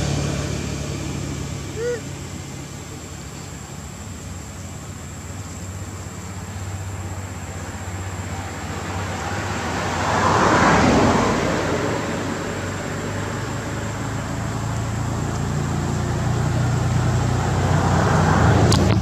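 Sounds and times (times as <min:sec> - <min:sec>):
low engine hum: 0:00.0 - 0:19.0
road vehicle passing: 0:00.0 - 0:19.0.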